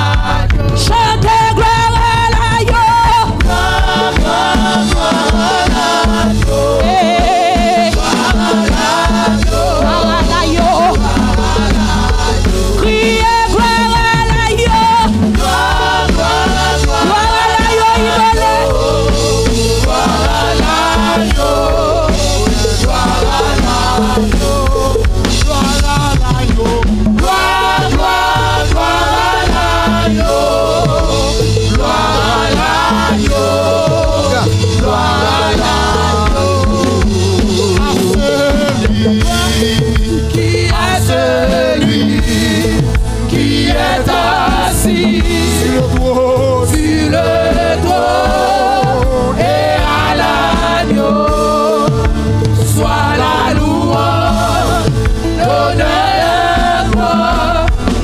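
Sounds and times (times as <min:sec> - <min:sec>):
gospel singers on microphones: 0:00.0 - 0:58.0
instrumental accompaniment with bass: 0:00.0 - 0:58.0.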